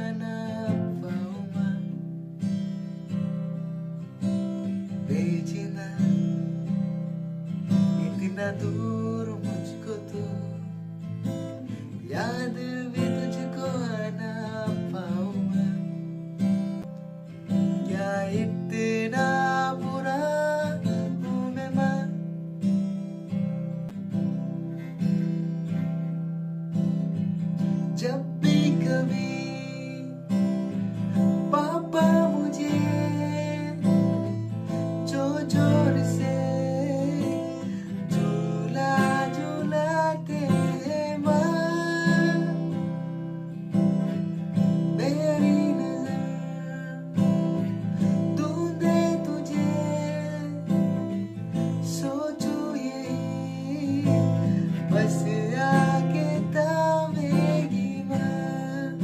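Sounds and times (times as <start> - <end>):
acoustic guitar playing: 0.0 - 59.0.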